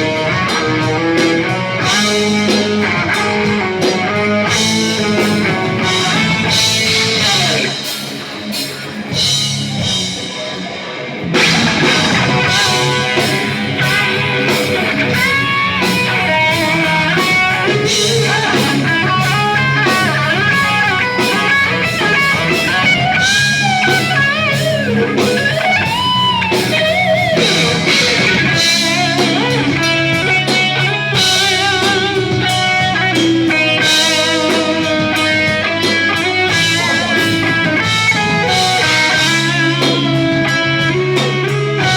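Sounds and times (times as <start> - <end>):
lead electric guitar line: 0.0 - 41.9
rock band playing: 0.0 - 41.9.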